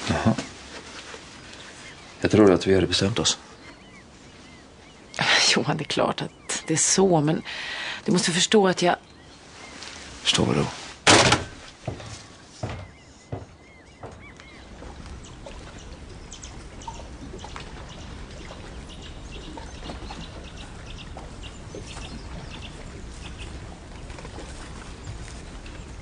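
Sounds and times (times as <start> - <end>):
small birds chirping: 0.0 - 10.9, 11.6 - 26.0
water lapping and trickling: 0.0 - 26.0.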